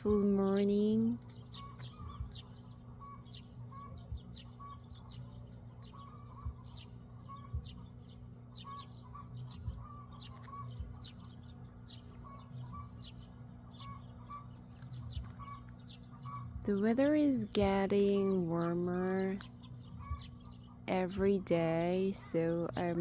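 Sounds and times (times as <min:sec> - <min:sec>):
low bird call notes: 0:00.0 - 0:22.9
small birds chirping: 0:00.0 - 0:23.0
steady low hum: 0:00.0 - 0:23.0.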